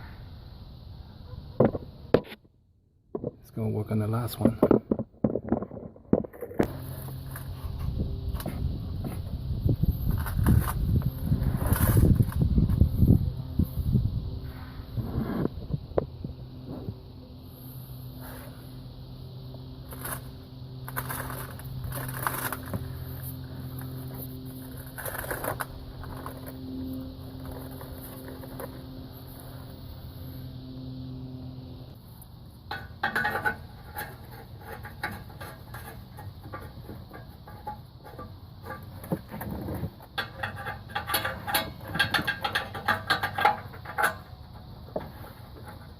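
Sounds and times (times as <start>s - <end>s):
mechanical hum: 5.7s - 45.9s.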